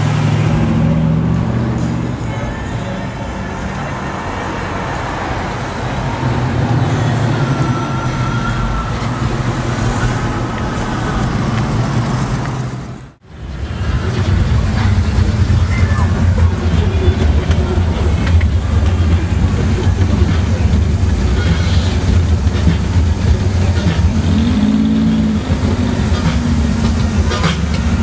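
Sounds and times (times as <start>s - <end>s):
car engines in slow traffic: 0.0s - 28.0s
road noise: 0.0s - 28.0s.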